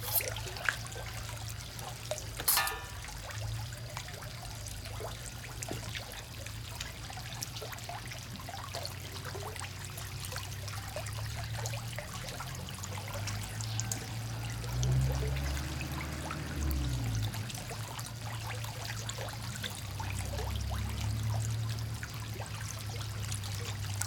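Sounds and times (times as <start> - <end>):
small splashes and clicks: 0.0 - 24.0
water splashing and trickling: 0.0 - 24.0.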